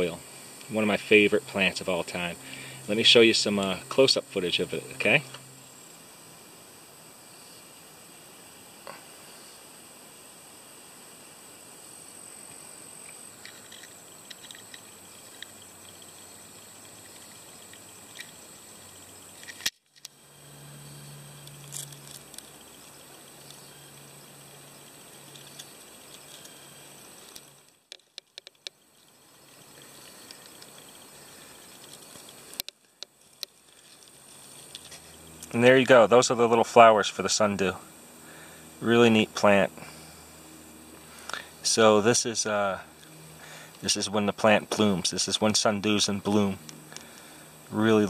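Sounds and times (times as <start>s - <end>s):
even hiss: 0.0s - 48.0s
low hum: 0.0s - 48.0s
thin high whine: 0.0s - 48.0s.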